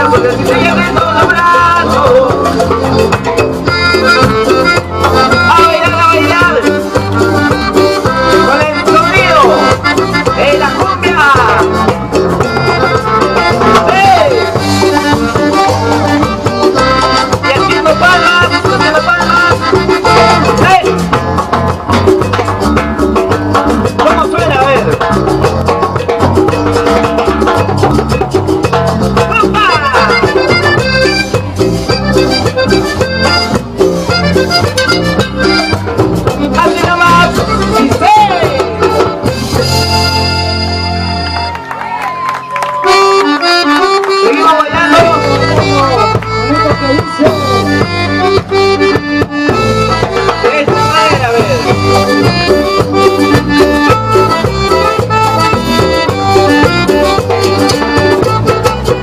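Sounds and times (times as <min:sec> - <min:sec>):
steady bass: 0:00.0 - 0:42.2, 0:42.8 - 0:59.0
cumbia band playing: 0:00.0 - 0:59.0
melodic lead line: 0:00.0 - 0:59.0
percussion beat: 0:00.0 - 0:59.0.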